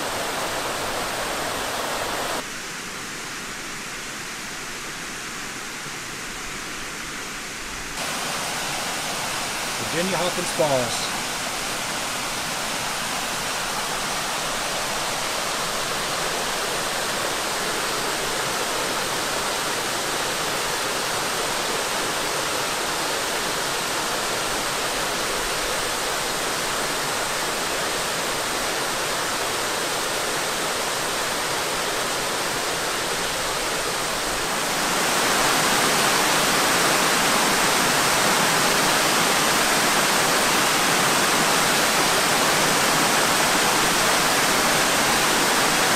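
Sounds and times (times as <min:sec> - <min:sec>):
waterfall rushing over rocks: 0:00.0 - 0:45.9.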